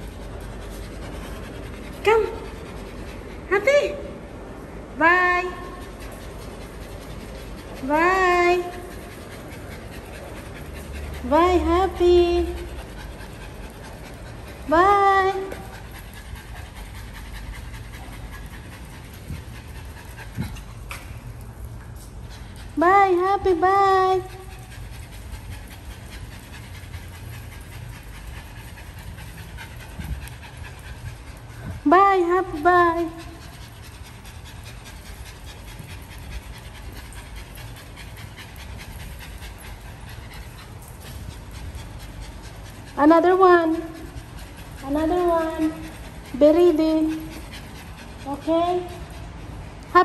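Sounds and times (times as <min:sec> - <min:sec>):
small dog panting: 0:00.0 - 0:04.4, 0:05.2 - 0:50.0.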